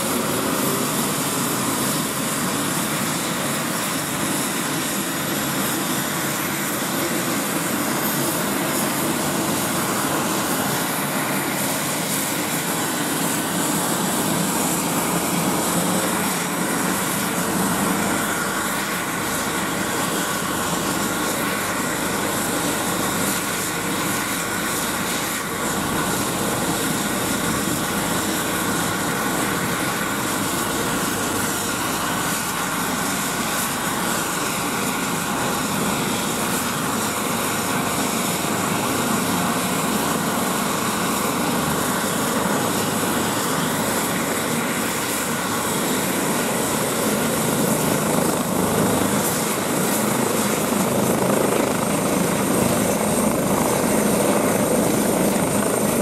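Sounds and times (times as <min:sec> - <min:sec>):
helicopter turbine and rotor: 0:00.0 - 0:56.0
high turbine whine: 0:00.0 - 0:56.0.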